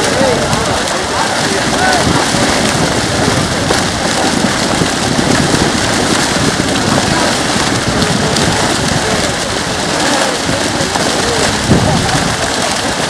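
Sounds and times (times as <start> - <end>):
fish thrashing and splashing: 0.0 - 13.0.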